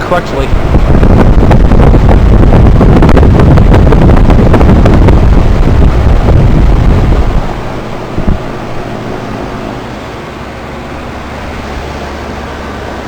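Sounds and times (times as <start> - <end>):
heat pump outdoor unit running: 0.0 - 13.0
wind buffeting microphone: 0.0 - 13.0.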